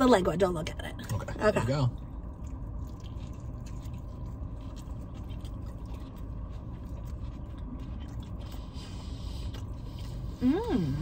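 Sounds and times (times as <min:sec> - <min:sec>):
people chewing crisp food: 0:01.9 - 0:11.0.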